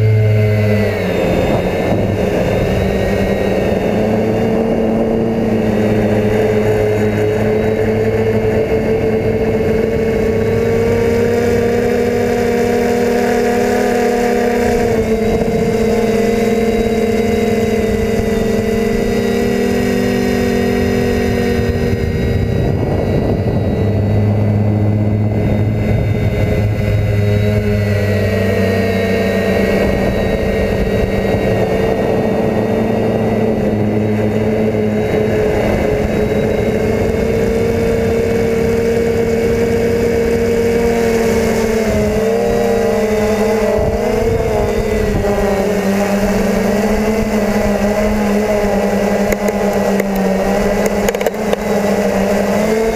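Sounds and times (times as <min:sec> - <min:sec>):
drone motors and propellers humming: 0:00.0 - 0:52.9.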